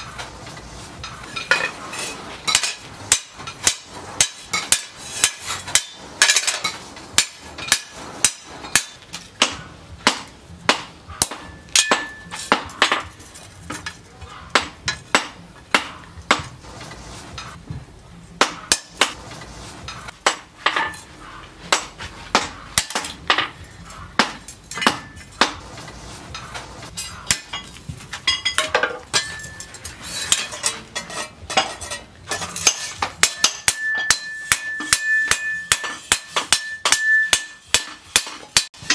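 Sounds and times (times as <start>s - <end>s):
hammer striking steel on anvil: 1.2s - 16.6s, 18.4s - 19.2s, 20.0s - 21.1s, 21.7s - 25.6s, 26.4s - 38.9s.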